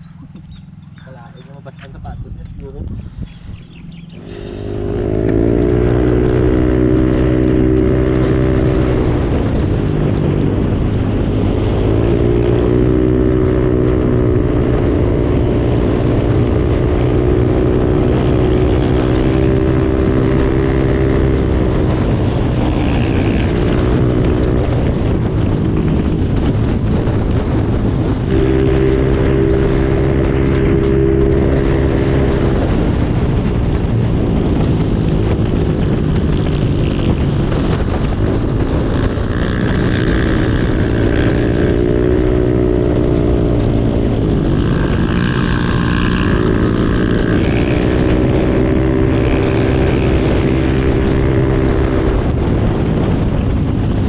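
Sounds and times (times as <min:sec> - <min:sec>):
motorcycle engine accelerating: 0:00.0 - 0:54.0
wind noise on microphone: 0:00.0 - 0:54.0.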